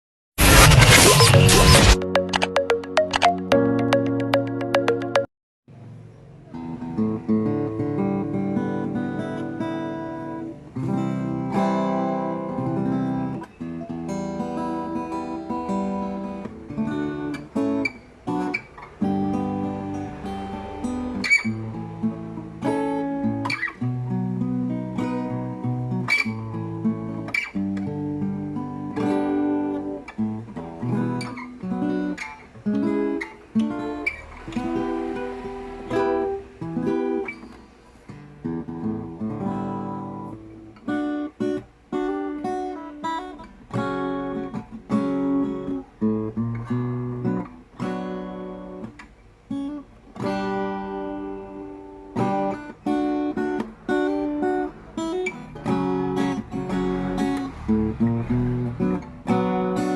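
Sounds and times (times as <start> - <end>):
acoustic guitar strumming and picking: 0.4 - 5.3, 6.5 - 59.9.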